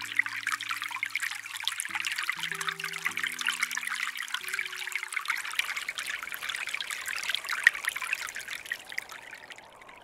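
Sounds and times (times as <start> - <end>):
stream babbling over rocks: 0.0 - 10.0.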